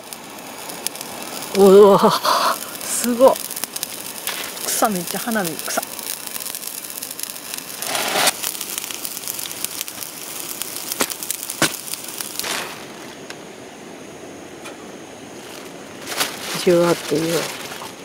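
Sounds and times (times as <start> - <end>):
charcoal crackling and popping: 0.0 - 18.0.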